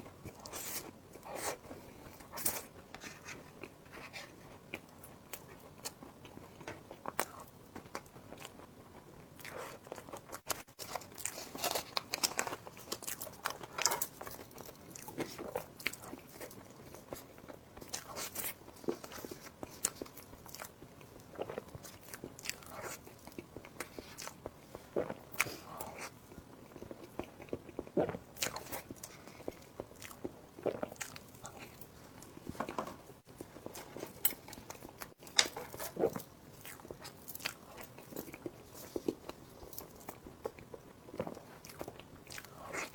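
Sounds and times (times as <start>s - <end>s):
crunchy chewing: 0.2s - 32.6s, 33.4s - 42.9s.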